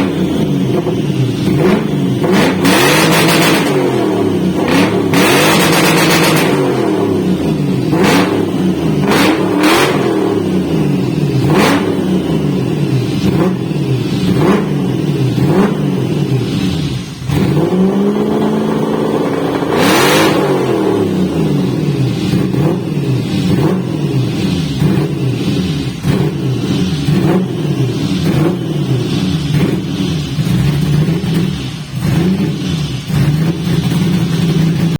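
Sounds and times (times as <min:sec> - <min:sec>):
engine revving: 0:00.0 - 0:34.9.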